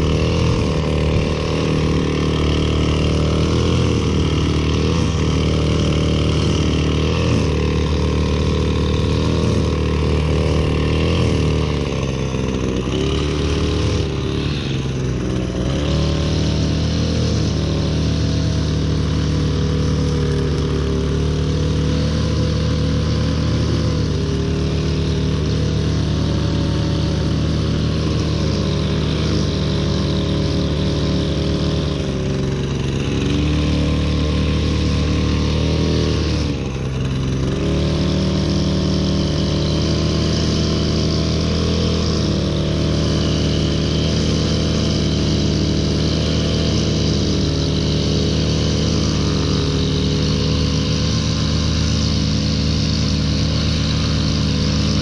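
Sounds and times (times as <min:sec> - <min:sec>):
string trimmer cutting grass: 0:00.0 - 0:55.0.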